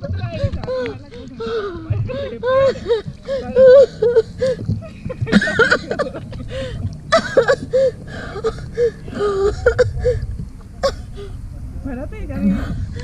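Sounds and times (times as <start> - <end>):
jet ski engine rumble: 0.0 - 13.0.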